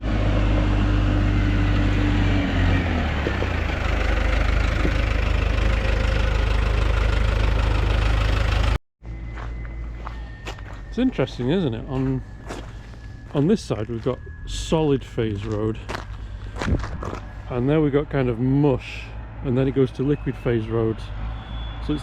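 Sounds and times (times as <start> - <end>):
engine idling: 0.0 - 22.0
sliding high tone: 0.4 - 22.0.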